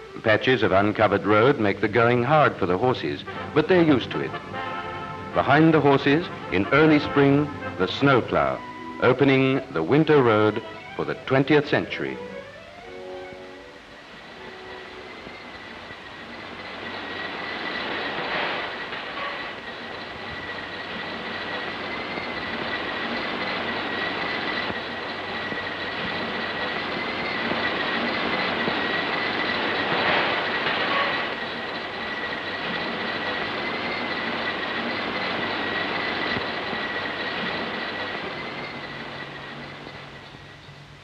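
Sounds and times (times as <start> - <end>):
snowplow rushing with high whine: 0.0 - 41.0.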